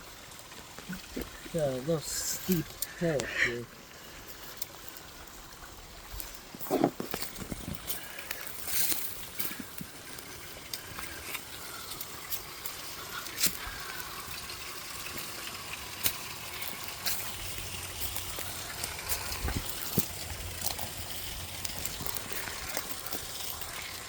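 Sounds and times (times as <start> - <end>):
creek running: 0.0 - 24.0
footsteps on dry leaves and twigs: 4.2 - 24.0.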